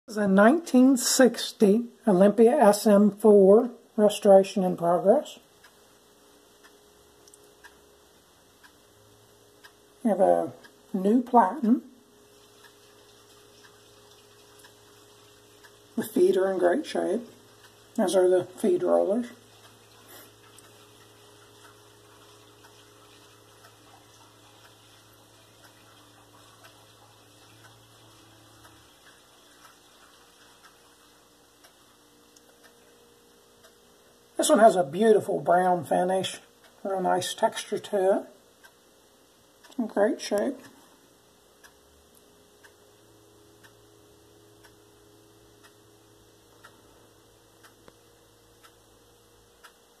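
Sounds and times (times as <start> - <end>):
low steady hum: 0.1 - 50.0
soft ticking: 0.4 - 50.0.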